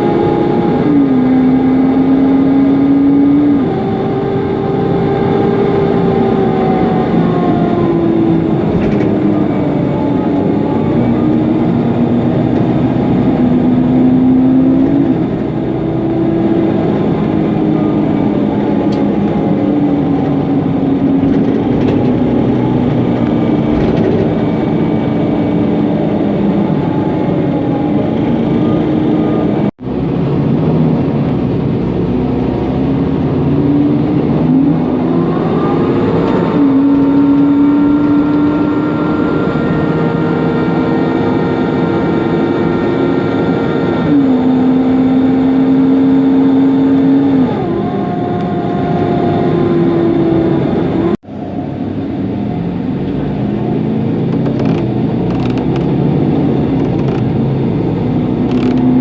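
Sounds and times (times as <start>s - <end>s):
bus engine running: 0.0s - 59.0s
loud engine cooling fan: 0.0s - 59.0s.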